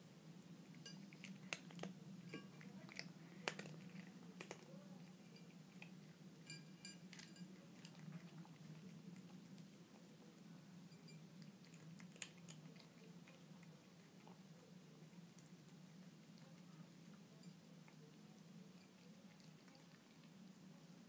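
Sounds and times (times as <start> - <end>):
cat chewing food: 0.6 - 21.0.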